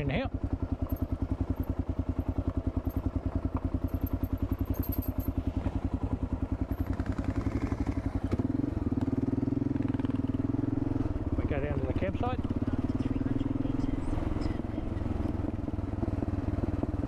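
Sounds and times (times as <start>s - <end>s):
motorcycle engine chugging: 0.0s - 17.0s.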